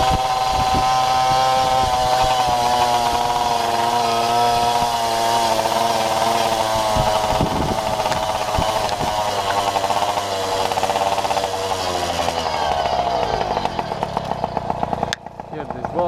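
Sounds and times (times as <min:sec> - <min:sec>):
moped engine at high revs: 0:00.0 - 0:16.0.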